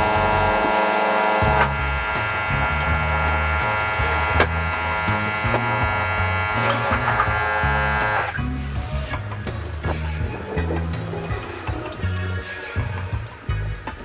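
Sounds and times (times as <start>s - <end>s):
music with stepped bass line: 0.0s - 0.8s, 1.4s - 14.0s
steady electric buzz: 0.0s - 14.0s.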